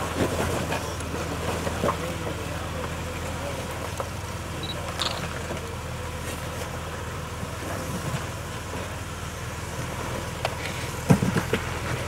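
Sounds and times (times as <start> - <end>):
car engine running low: 0.0 - 12.0.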